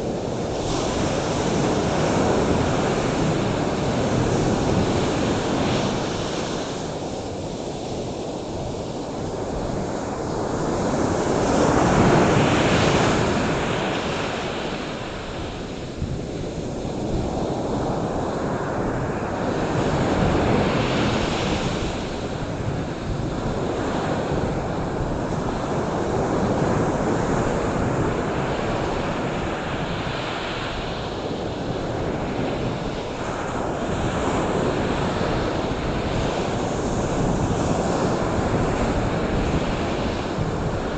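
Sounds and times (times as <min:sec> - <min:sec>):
ocean waves washing in: 0:00.0 - 0:40.9.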